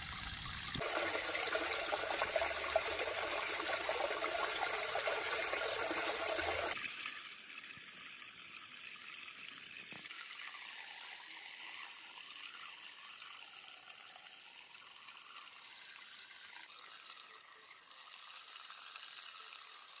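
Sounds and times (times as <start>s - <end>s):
running water trickling: 0.0s - 20.0s.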